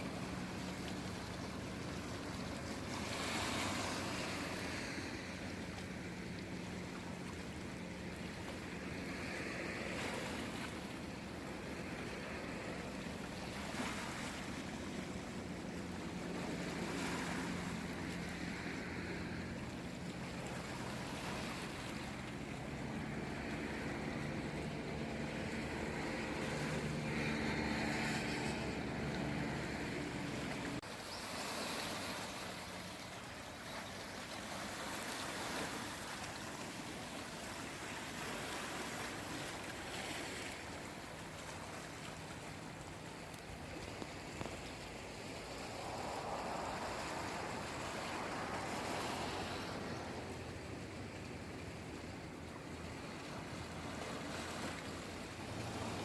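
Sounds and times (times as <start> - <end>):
low engine hum: 0.0 - 31.2, 32.1 - 56.0
sea waves washing in: 0.0 - 56.0.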